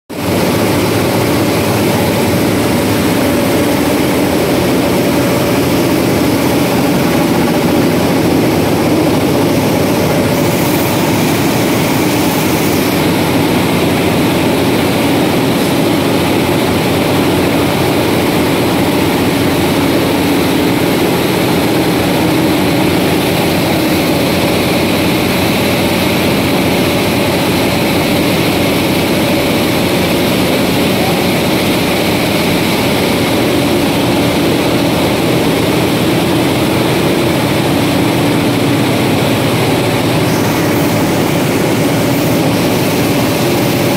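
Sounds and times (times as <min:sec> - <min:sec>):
roller gin machinery din: 0:00.1 - 0:43.9.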